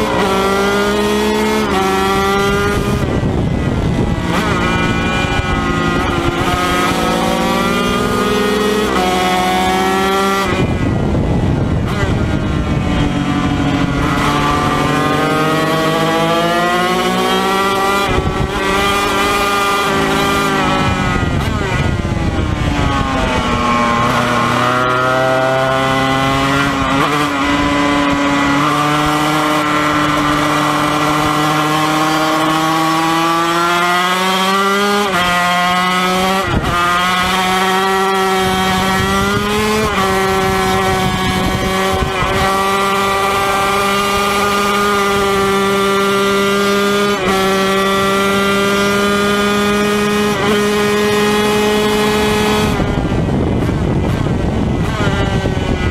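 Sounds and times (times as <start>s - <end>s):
racing engine revving: 0.0s - 55.9s.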